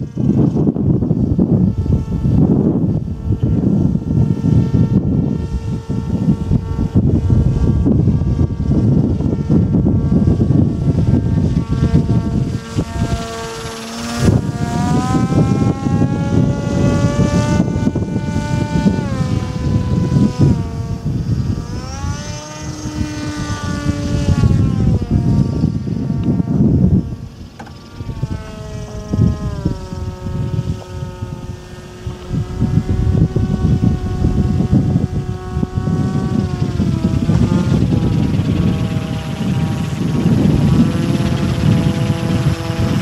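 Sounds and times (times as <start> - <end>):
model aircraft motor whine: 0.0 - 43.0
wind rumble on microphone: 0.0 - 43.0.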